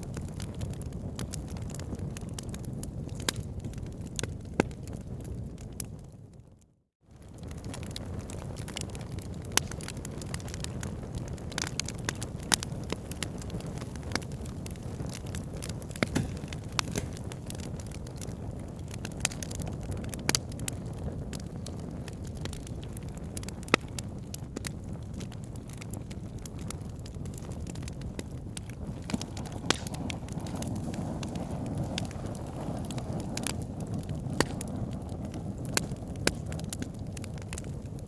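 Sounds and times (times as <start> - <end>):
fire crackling and popping: 0.0 - 6.5, 7.1 - 38.0.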